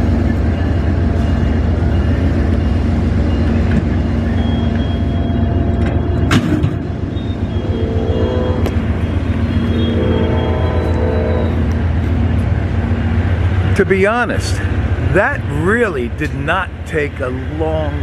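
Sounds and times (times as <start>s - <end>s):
passenger train rolling past: 0.0s - 18.0s.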